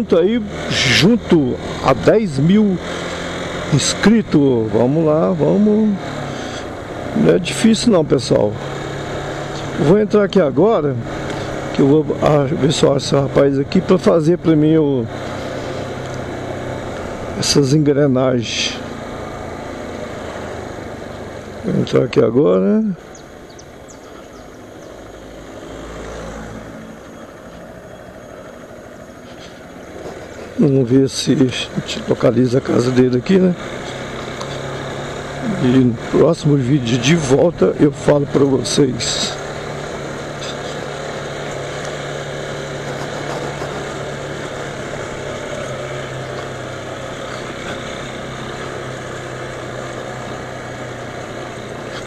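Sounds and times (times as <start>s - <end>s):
motorcycle engine hum: 0.0s - 52.0s
wind and road noise: 0.0s - 52.0s.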